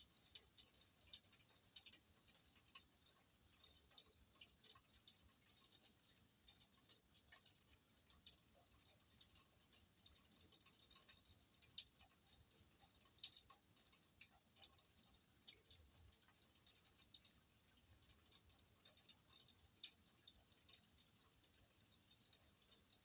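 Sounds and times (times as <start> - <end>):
raindrops pattering: 0.0 - 23.0.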